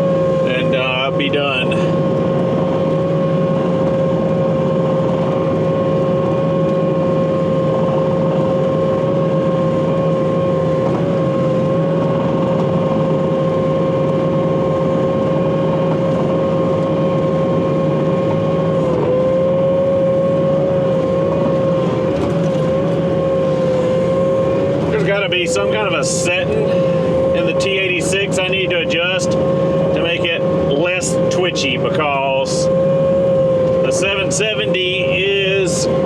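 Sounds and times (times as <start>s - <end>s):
diesel rumble: 0.0s - 36.0s
loud high machine whine: 0.0s - 36.0s.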